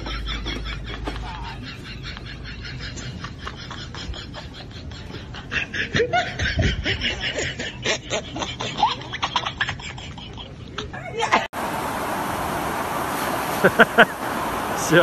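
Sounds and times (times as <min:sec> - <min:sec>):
people laughing: 0:00.0 - 0:11.5, 0:13.6 - 0:14.2.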